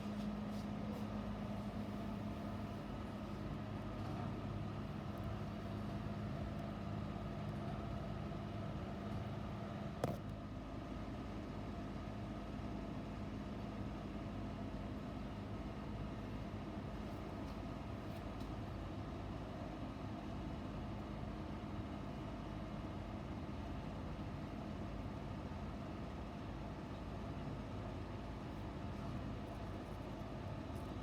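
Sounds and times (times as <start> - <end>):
mechanical hum and rumble: 0.0 - 31.0.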